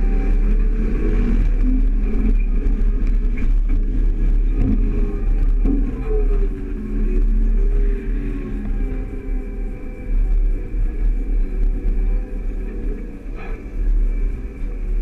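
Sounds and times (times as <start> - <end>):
farm machinery engine drone: 0.0 - 15.0.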